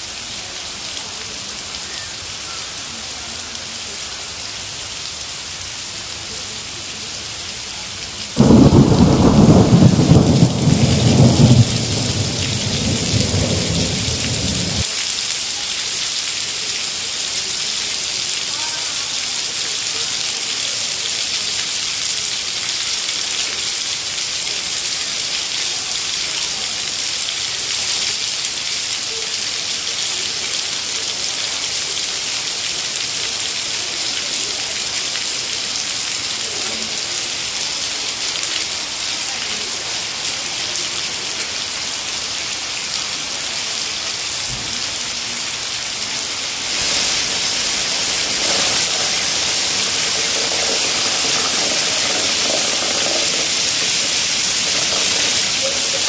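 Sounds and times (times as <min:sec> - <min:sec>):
heavy rain on wet paving: 0:00.0 - 0:56.0.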